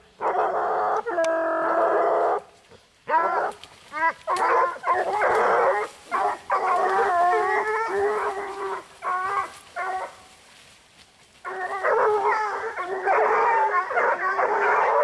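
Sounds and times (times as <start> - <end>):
hounds baying: 0.0 - 10.7, 11.3 - 15.0.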